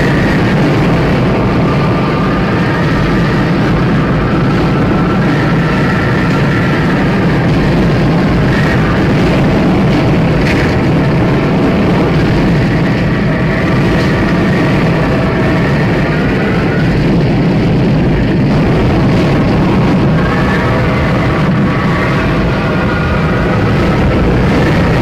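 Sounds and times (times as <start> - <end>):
distorted rumbling noise: 0.0 - 25.0.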